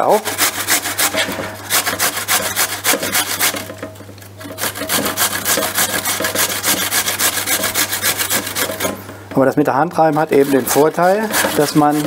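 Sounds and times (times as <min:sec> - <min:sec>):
potatoes grated on metal grater: 0:00.0 - 0:03.8, 0:04.4 - 0:12.0.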